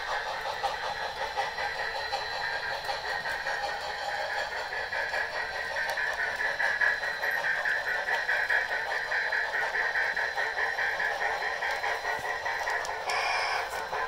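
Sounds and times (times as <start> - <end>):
steam chuffing from small speakers: 0.0 - 14.0
train wheels rattling on track: 0.0 - 14.0.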